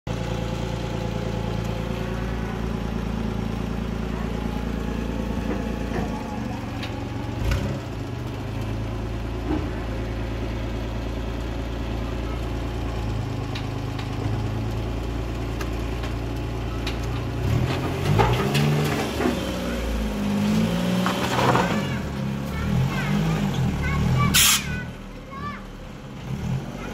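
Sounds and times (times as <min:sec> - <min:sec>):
loader engine revving: 0:00.1 - 0:25.2, 0:26.0 - 0:26.9.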